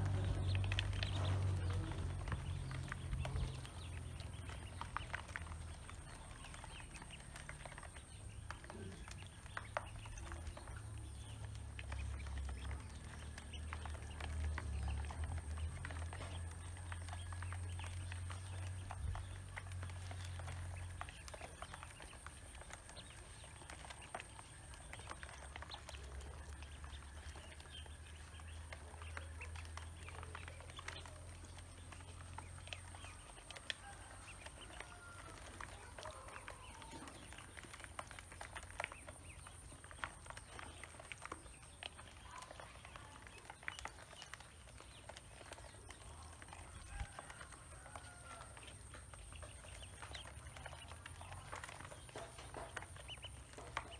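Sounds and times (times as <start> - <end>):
ducklings pecking plastic basin: 0.0 - 53.9
ducklings peeping: 0.0 - 53.9.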